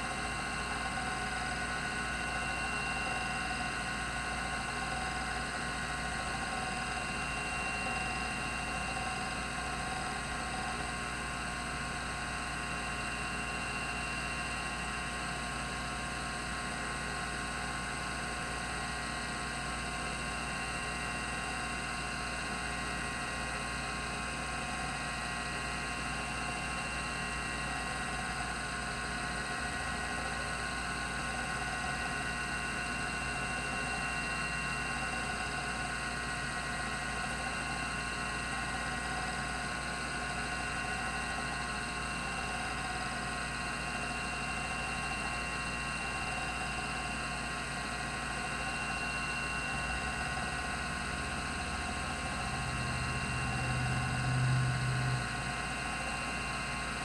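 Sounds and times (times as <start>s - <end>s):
hard drive spinning whine: 0.0s - 57.0s.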